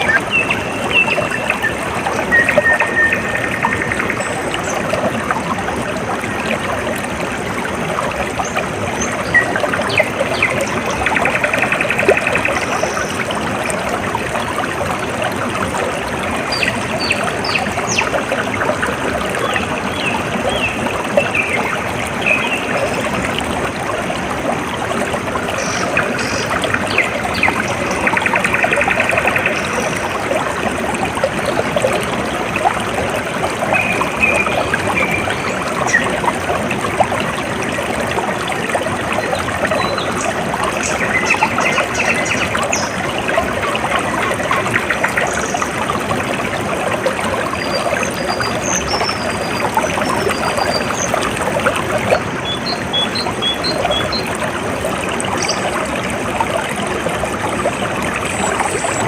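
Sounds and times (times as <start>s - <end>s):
stream trickling and gurgling: 0.0s - 59.0s.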